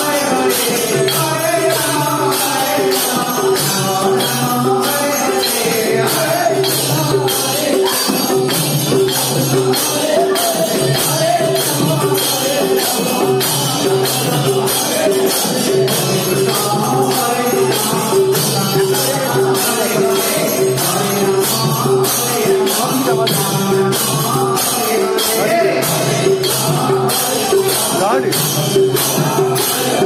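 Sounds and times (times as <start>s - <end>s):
steady percussion beat: 0.0s - 30.0s.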